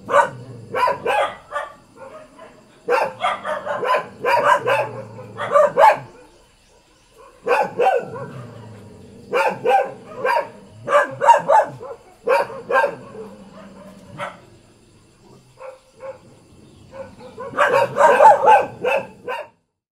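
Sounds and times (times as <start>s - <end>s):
dogs barking: 0.0s - 19.6s.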